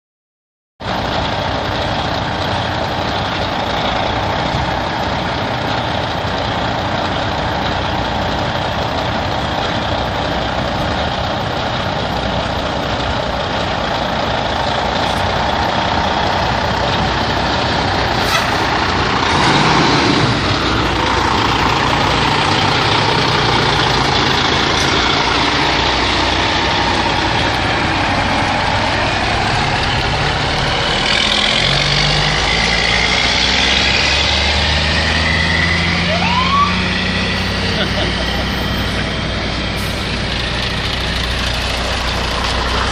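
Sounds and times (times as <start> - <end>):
diesel engine running: 0.8 - 42.9.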